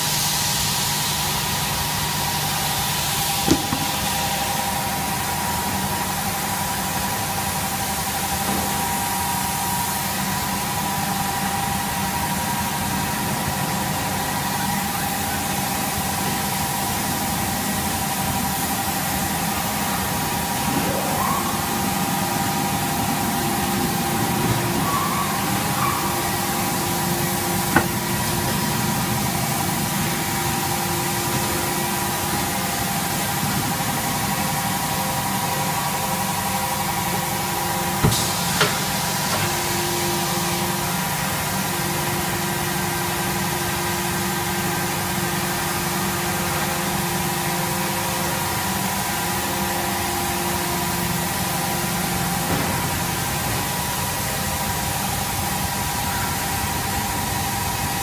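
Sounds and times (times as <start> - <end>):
machinery humming with steady tones: 0.0 - 58.0.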